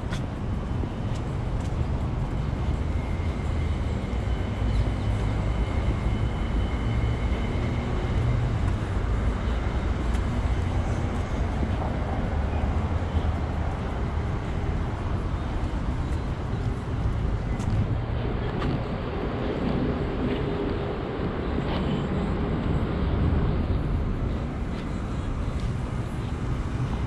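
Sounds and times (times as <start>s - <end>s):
city street rumble: 0.0s - 27.0s.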